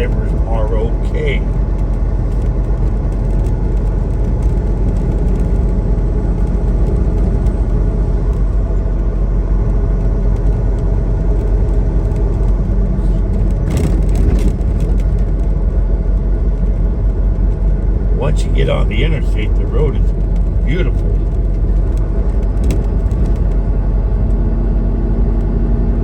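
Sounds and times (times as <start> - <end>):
truck engine and tyre drone: 0.0 - 26.0.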